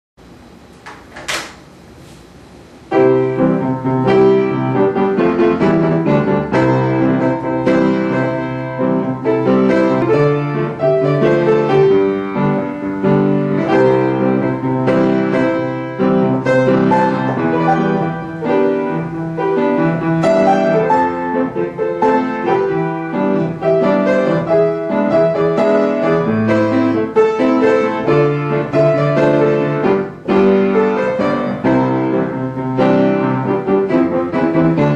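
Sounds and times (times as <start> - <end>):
solo piano ballad: 2.8 - 34.9.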